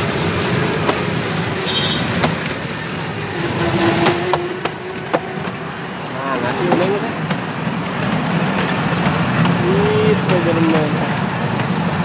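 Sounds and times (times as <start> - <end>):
kiddie train rumbling on track: 0.0 - 12.0.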